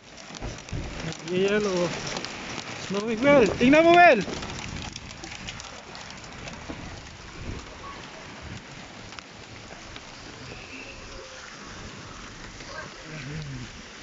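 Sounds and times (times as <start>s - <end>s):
hail and rain falling: 0.0s - 14.0s
hailstones ticking: 0.0s - 14.0s.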